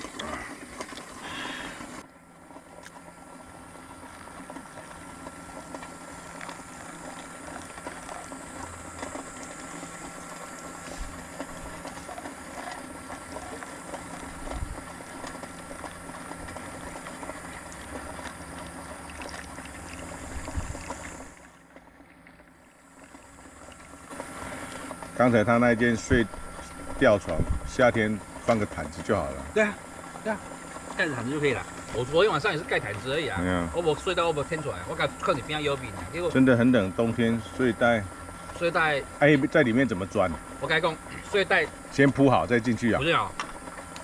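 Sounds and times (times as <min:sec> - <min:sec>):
hot water trickling over coffee: 0:00.0 - 0:44.0.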